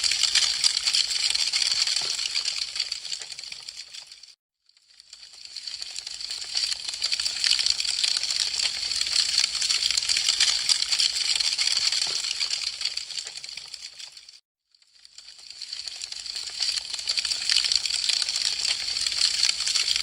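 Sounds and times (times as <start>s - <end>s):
wood fire crackling: 0.0s - 4.1s, 5.3s - 14.3s, 15.4s - 20.0s.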